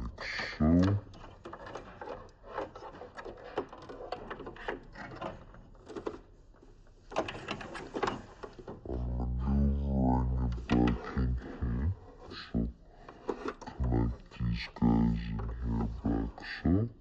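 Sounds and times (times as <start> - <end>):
plastic parts clicking and rattling: 0.0 - 9.1, 10.5 - 16.6.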